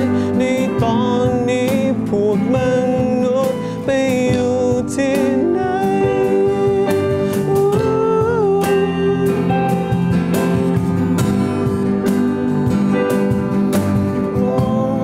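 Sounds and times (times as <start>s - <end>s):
keyboard: 0.0s - 15.0s
strummed acoustic guitar: 0.0s - 15.0s
cajon hits: 0.4s - 15.0s.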